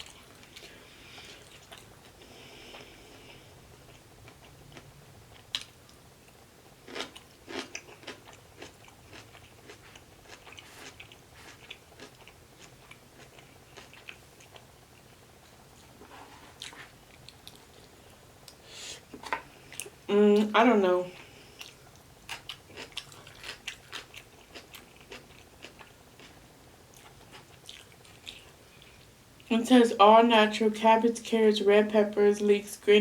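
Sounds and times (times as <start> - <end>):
person chewing food: 0.0 - 20.0, 21.2 - 29.5.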